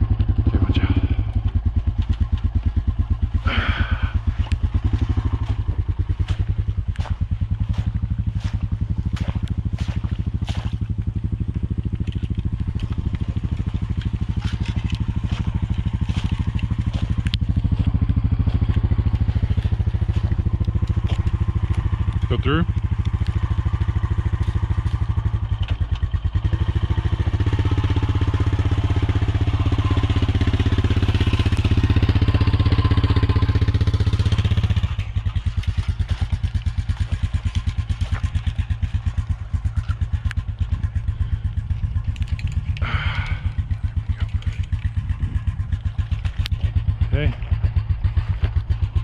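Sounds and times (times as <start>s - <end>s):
atv engine running: 0.0s - 49.0s.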